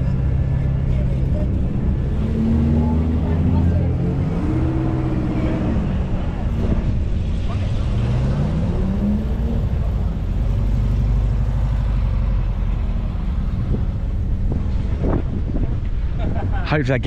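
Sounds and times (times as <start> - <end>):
car engine accelerating: 0.0 - 16.5.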